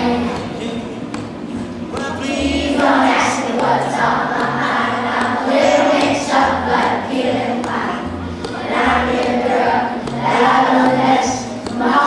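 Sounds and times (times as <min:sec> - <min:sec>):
children's choir singing pop song: 0:00.0 - 0:12.0
instrumental accompaniment: 0:00.0 - 0:12.0.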